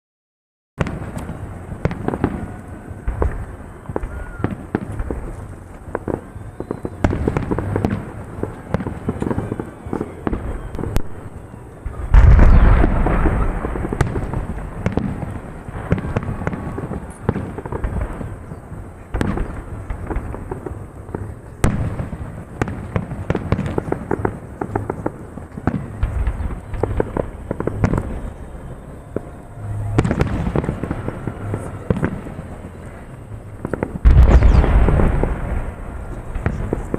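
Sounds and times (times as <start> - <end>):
fireworks bursts and crackles: 0.8 - 36.9.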